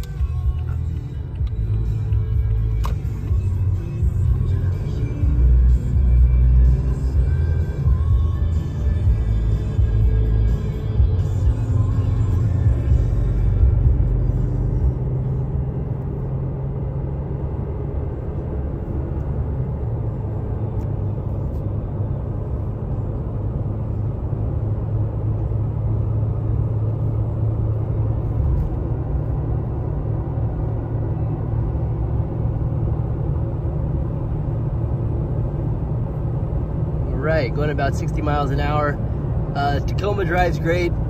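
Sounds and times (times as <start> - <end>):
road rumble inside truck cab: 0.0 - 41.0.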